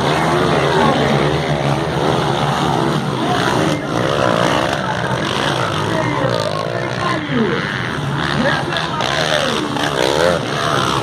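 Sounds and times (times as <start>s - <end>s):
dirt bike engines revving: 0.0s - 11.0s
steady low drone: 0.0s - 11.0s.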